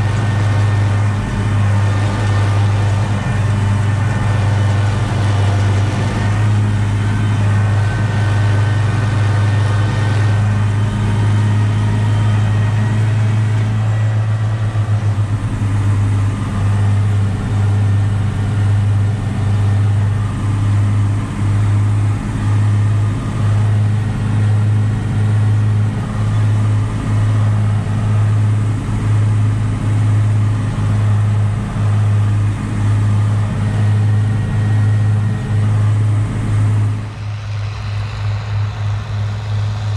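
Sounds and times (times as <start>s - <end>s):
diesel tractor engine drone: 0.0s - 39.9s.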